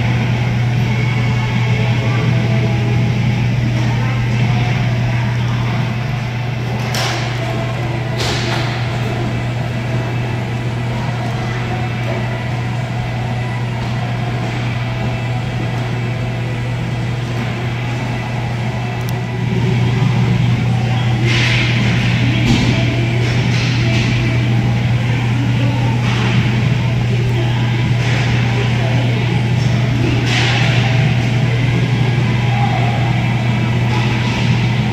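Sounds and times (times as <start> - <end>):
loud steady low hum: 0.0 - 34.9.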